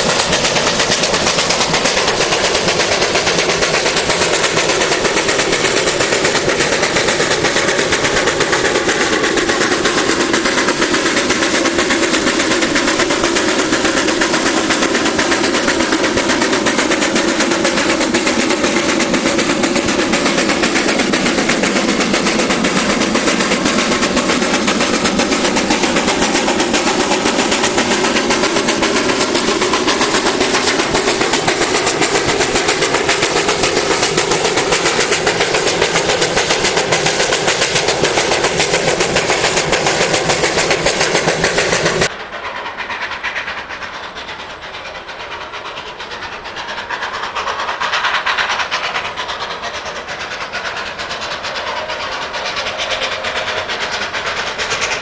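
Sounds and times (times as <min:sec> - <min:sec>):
distant train: 0:00.0 - 0:55.0
steam locomotive rushing and rattling: 0:00.0 - 0:55.0.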